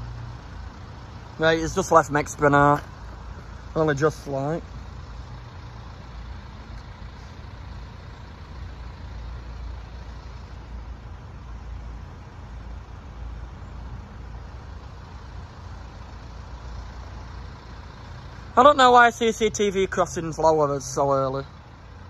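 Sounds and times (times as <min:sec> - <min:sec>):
road traffic rumbling: 0:00.0 - 0:22.0.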